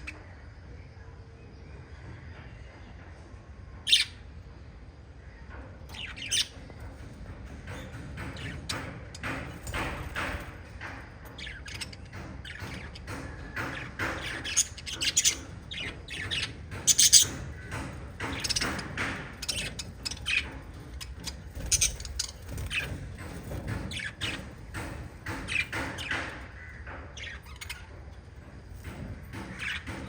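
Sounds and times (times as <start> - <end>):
lovebirds chirping and squawking: 3.8 - 4.3, 5.4 - 30.0.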